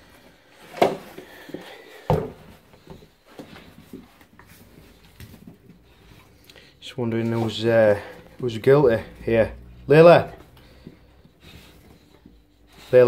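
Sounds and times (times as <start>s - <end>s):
rustling of movement: 0.0s - 13.0s.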